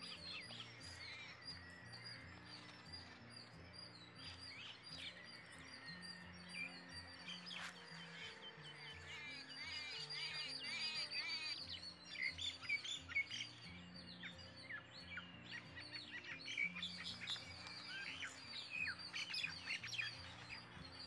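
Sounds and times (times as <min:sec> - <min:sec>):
small birds chirping: 0:00.0 - 0:21.0
soft background music: 0:00.0 - 0:21.0.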